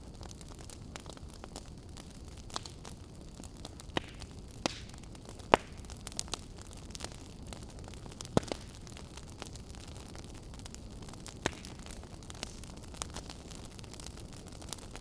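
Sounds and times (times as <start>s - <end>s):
campfire rumble: 0.0s - 15.0s
fire pops and crackles: 0.0s - 15.0s.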